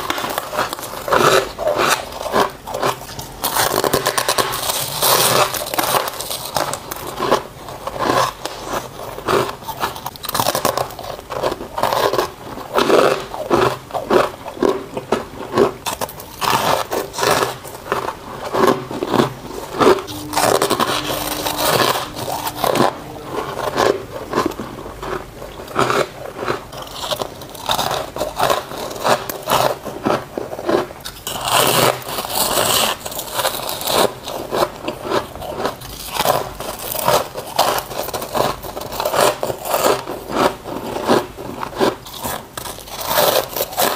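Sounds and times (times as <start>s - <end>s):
frost crunching being chewed: 0.0s - 43.9s.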